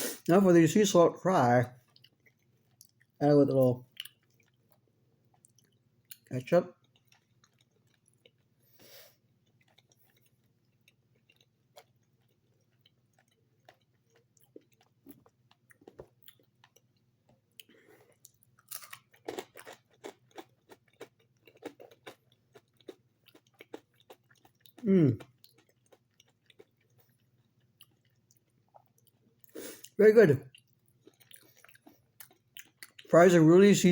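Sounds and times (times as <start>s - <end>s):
person chewing fries: 1.7s - 33.4s.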